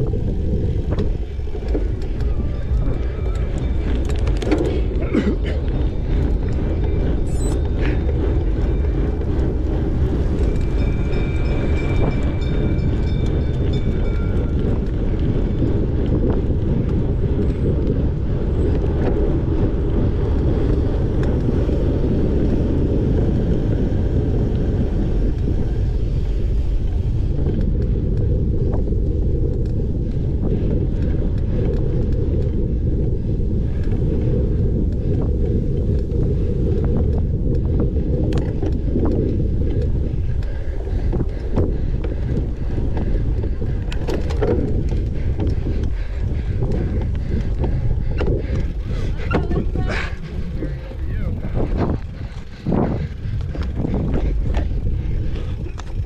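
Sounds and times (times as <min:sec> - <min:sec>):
bike rolling over dirt: 0:00.0 - 0:56.0
wind buffeting microphone: 0:00.0 - 0:56.0.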